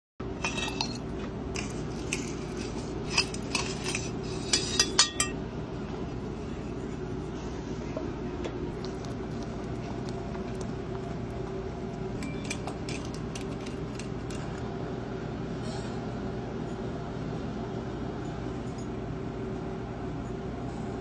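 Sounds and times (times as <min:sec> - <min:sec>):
electric furnace humming: 0:00.2 - 0:21.0.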